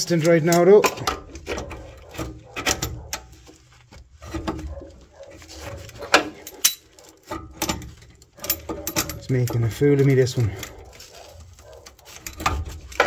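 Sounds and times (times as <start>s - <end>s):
metal tool clicking and scraping: 0.0s - 3.4s, 4.2s - 13.0s.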